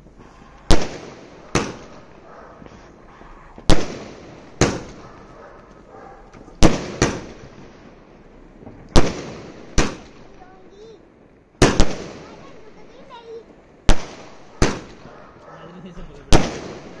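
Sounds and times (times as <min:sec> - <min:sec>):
firework shells bursting: 0:00.0 - 0:10.4, 0:11.3 - 0:12.7, 0:13.5 - 0:15.5, 0:16.3 - 0:17.0.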